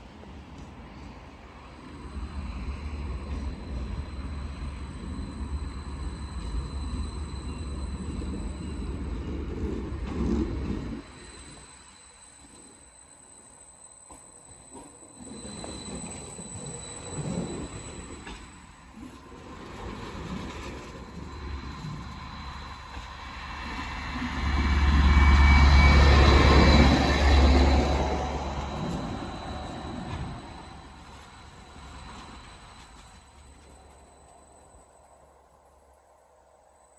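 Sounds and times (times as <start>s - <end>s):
train rumbling: 0.0s - 36.8s
faint high squeal: 0.9s - 36.9s.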